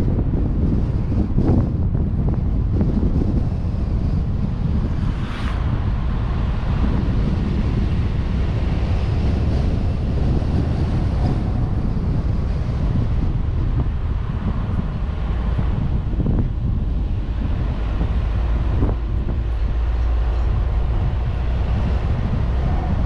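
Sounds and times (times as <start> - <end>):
vehicle road and engine noise: 0.0 - 23.0
wind buffeting microphone: 0.0 - 23.0.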